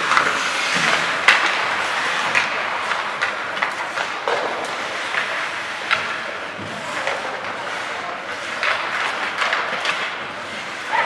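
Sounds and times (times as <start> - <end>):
hockey sticks and puck clacking: 0.0 - 11.0
skates hissing on ice: 0.0 - 11.0.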